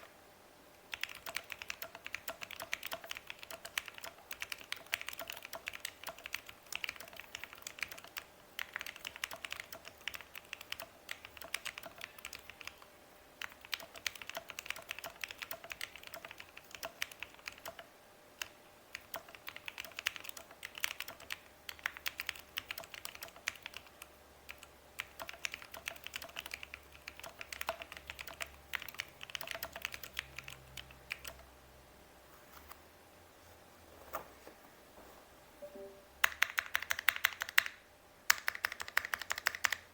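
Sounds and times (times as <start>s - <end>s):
typing on mechanical keyboard: 0.9s - 12.8s, 13.4s - 31.4s, 36.2s - 39.9s.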